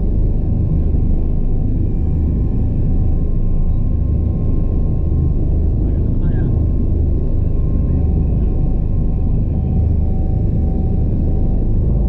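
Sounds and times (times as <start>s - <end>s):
helicopter rotor rumble: 0.0s - 12.0s.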